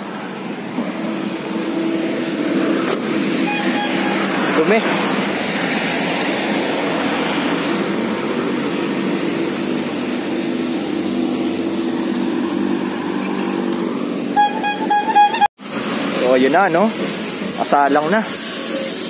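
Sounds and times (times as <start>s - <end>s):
street traffic noise: 0.0s - 19.0s
vehicle engine hum: 0.0s - 19.0s.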